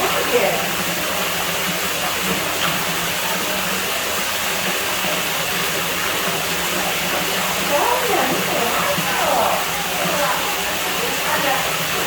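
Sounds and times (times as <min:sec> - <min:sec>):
water running into pool: 0:00.0 - 0:12.0.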